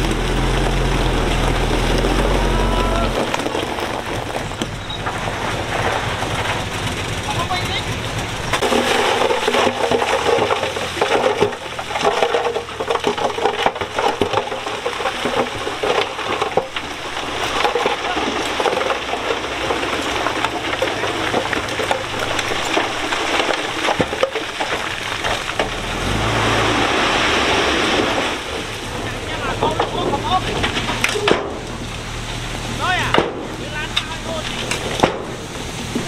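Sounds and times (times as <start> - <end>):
diesel engine running: 0.0 - 36.0
stones crunching and sliding: 0.0 - 36.0.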